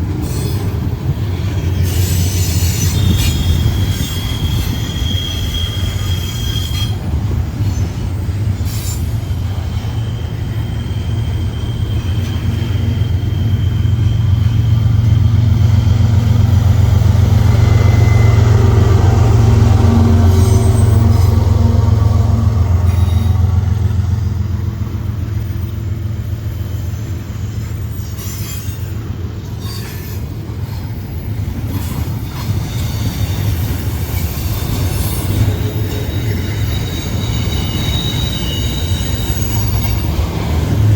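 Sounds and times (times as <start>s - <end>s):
diesel freight train rumbling: 0.0s - 40.9s
high wheel squeal: 1.7s - 23.9s, 25.1s - 40.9s.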